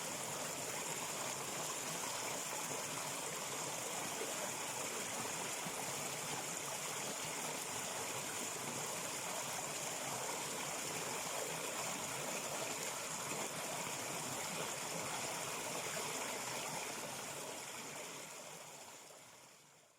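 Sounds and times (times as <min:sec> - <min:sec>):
stream flowing: 0:00.0 - 0:19.8.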